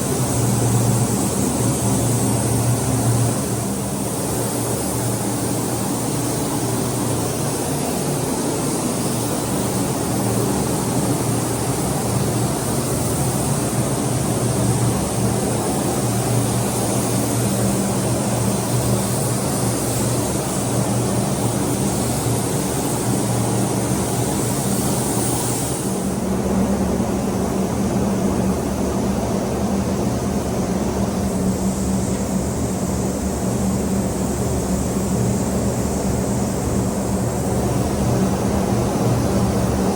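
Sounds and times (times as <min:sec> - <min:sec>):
high machine hiss: 0:00.0 - 0:39.9.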